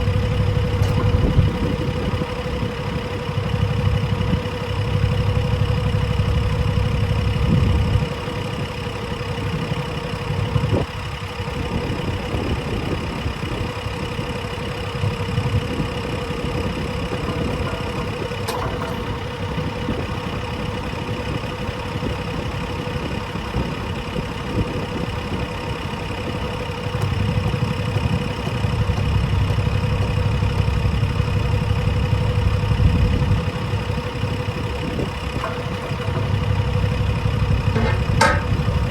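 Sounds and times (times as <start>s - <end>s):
machine engine whining: 0.0s - 8.1s, 15.2s - 38.9s.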